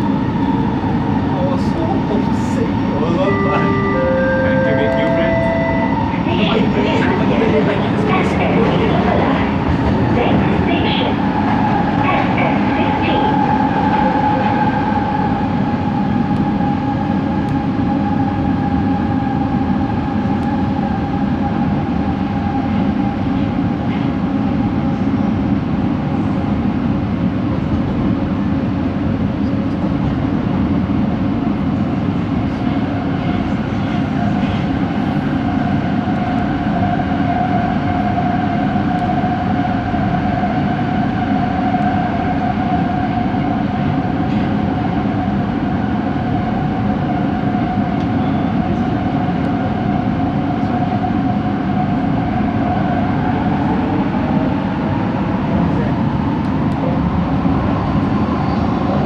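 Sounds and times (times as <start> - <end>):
rumble of wheels on track: 0.0 - 59.0.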